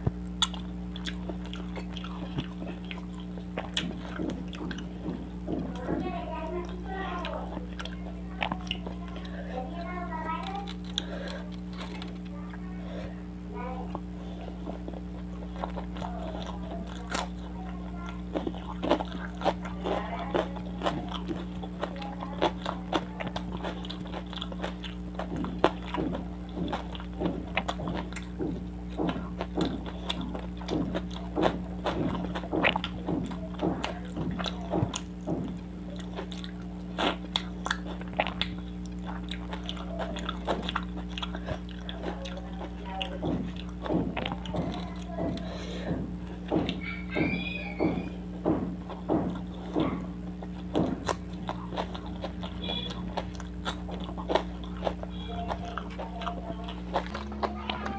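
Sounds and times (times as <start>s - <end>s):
wet chewing and lip smacking: 0.0s - 12.6s, 13.9s - 57.9s.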